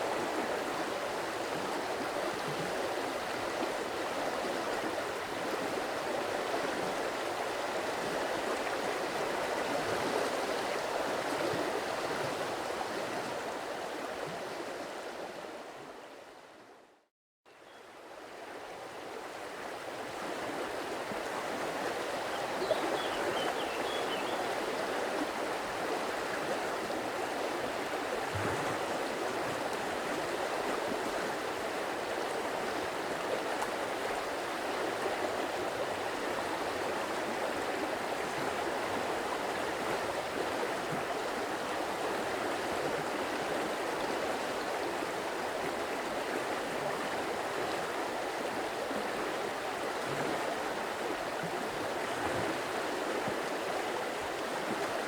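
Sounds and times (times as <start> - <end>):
stream water flowing and splashing: 0.0 - 16.7, 17.8 - 55.0.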